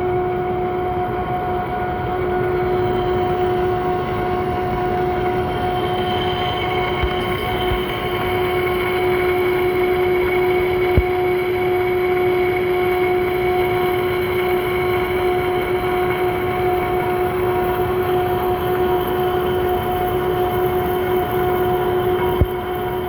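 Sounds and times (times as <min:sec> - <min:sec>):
lathe whining and rumbling: 0:00.0 - 0:23.0.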